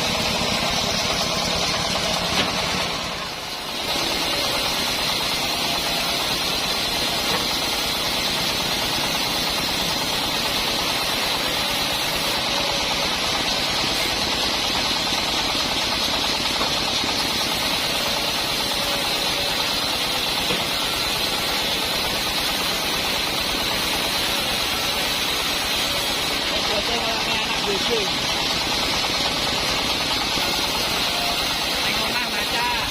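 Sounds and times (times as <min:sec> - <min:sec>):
band sawmill running: 0:00.0 - 0:32.9.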